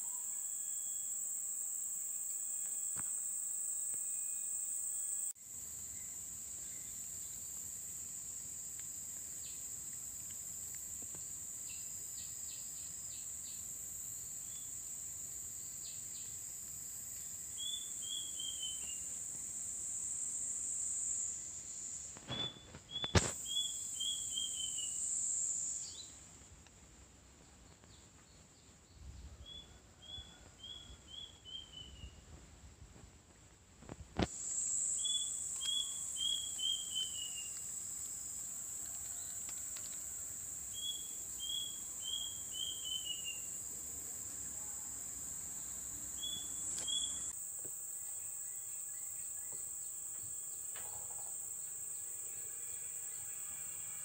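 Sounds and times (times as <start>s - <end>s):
high-pitched insect drone: 0.0s - 26.2s, 34.2s - 54.0s.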